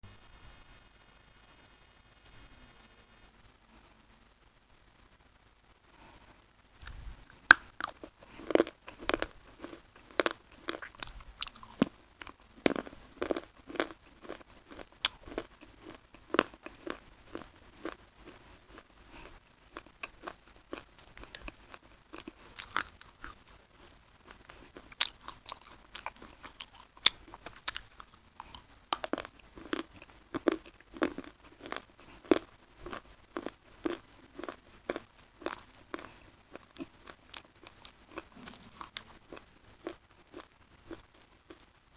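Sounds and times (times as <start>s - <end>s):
person chewing crisp biscuits: 6.8s - 41.8s.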